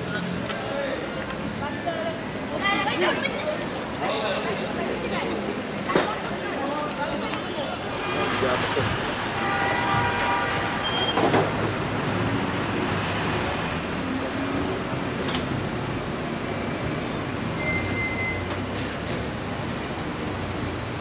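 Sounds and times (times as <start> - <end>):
street traffic passing: 0.0 - 21.0.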